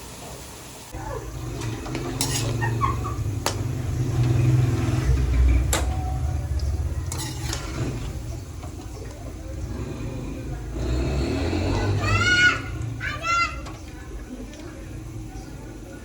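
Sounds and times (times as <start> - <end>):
vehicle engine rumble passing: 1.2 - 16.0.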